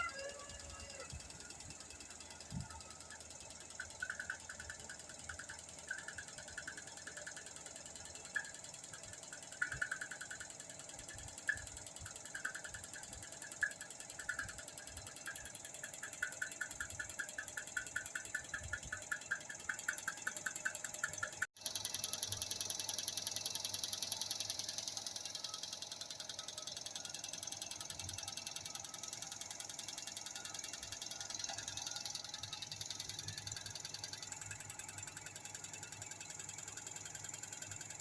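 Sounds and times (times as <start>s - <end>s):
machine rapid mechanical clicking: 0.0s - 38.0s.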